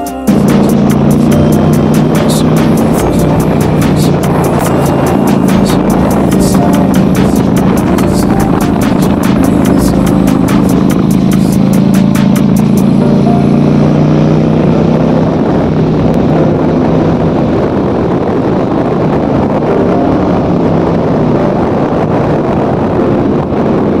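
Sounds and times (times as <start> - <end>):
motorcycle engine and road noise: 0.0 - 24.0
wind rushing over microphone: 0.3 - 24.0.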